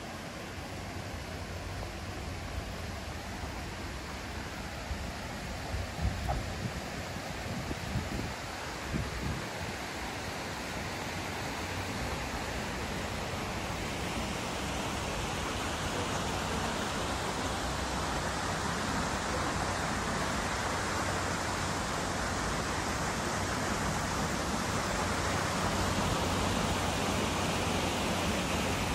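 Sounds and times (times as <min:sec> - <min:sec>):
water rushing in a channel: 0:00.0 - 0:28.9.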